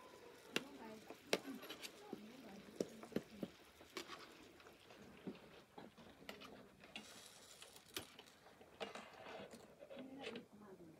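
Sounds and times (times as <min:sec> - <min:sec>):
soft hiss: 0:00.0 - 0:10.9.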